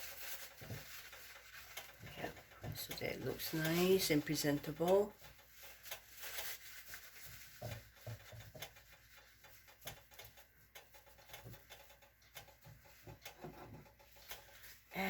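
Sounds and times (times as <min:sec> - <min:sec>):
paper towel rubbing plate: 0:00.0 - 0:15.0.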